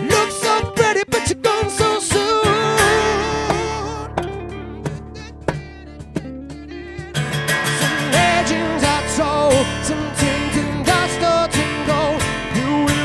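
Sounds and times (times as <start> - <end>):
cajon: 0.0 - 13.0
electric guitar: 0.0 - 13.0
strummed acoustic guitars: 0.0 - 13.0.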